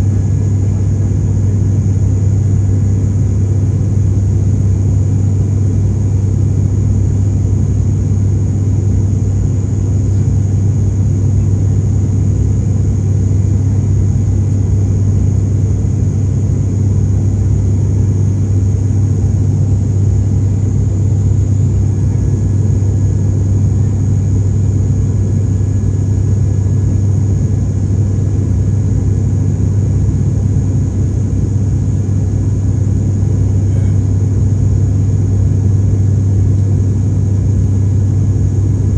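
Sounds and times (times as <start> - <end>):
airliner engines droning: 0.0 - 38.9.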